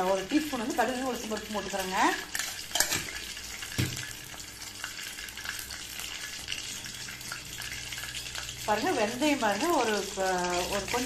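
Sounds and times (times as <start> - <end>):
mustard seeds crackling in hot oil: 0.0 - 11.0.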